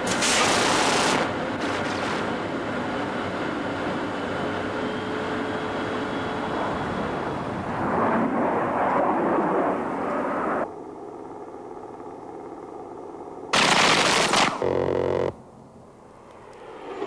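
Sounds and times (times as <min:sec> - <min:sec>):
jet aircraft flying low: 0:00.0 - 0:17.0.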